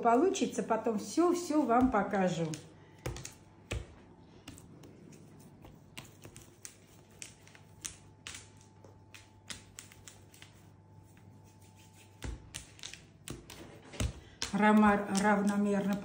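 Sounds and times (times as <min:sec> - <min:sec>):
low steady hum: 0:00.0 - 0:16.0
hands working dough on stone: 0:00.1 - 0:16.0.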